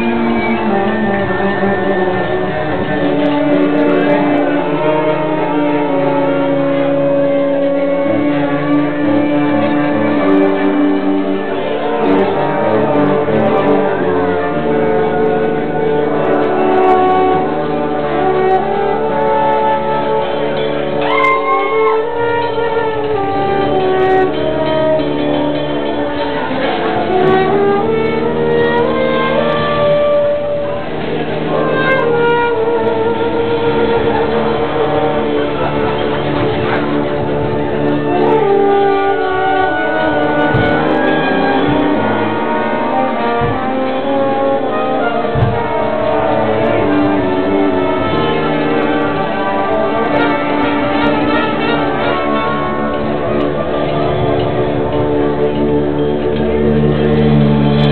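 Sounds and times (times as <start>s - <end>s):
horn sliding to high note: 0.0s - 57.9s
marching band playing: 0.0s - 57.9s.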